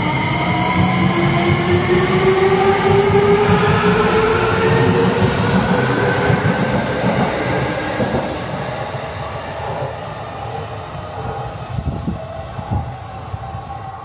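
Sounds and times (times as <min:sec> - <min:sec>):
electric train running away: 0:00.0 - 0:14.0.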